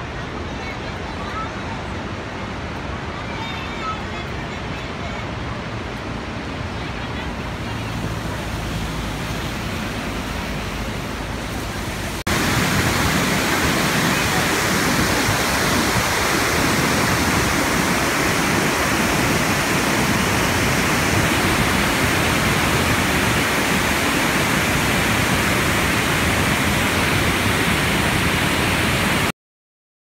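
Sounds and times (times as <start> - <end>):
waterfall rushing: 0.0 - 29.3.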